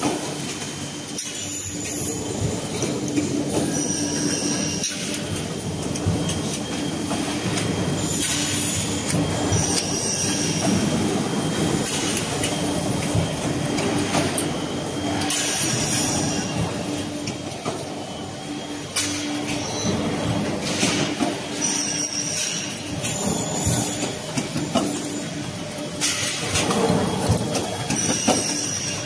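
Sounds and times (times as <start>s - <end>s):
factory machinery din: 0.0s - 29.0s
high-pitched machine squeals: 0.2s - 2.9s, 3.5s - 29.0s.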